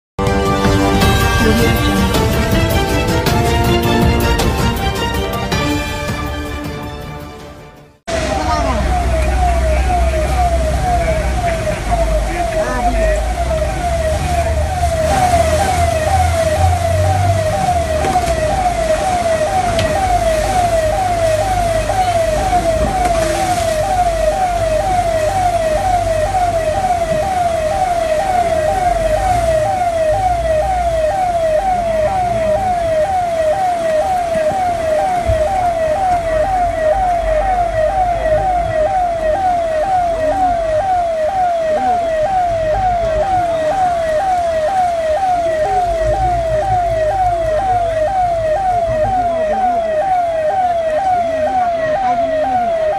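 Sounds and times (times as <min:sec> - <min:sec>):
electronic siren alarm tone: 0:00.2 - 0:06.7, 0:08.1 - 0:52.9.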